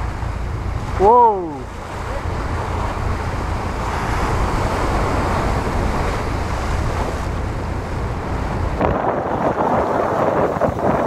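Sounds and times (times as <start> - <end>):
deep rumble: 0.0 - 11.0
waves breaking against rocks: 0.0 - 11.0
wind buffeting microphone: 0.0 - 11.0.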